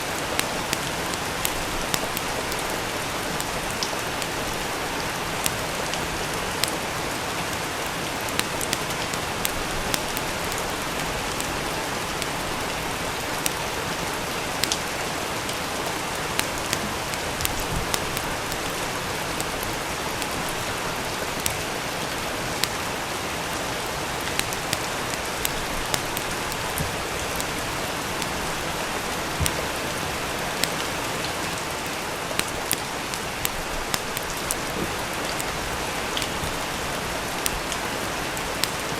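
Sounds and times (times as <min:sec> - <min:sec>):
steady rain: 0:00.0 - 0:38.9
wood fire crackling and popping: 0:00.0 - 0:38.9.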